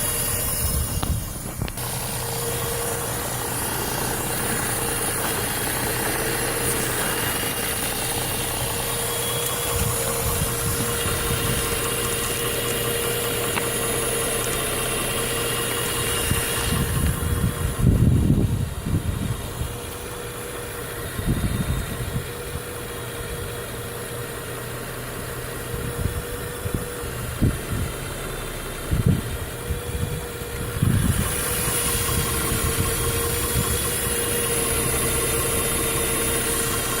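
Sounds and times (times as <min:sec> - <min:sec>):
loud hiss: 0:00.0 - 0:23.0, 0:30.3 - 0:37.0
engine idling with whine: 0:00.0 - 0:37.0.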